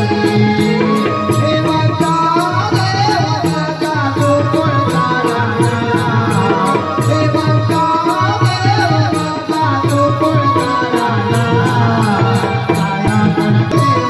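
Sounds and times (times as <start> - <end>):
jingling percussion beat: 0.0 - 14.0.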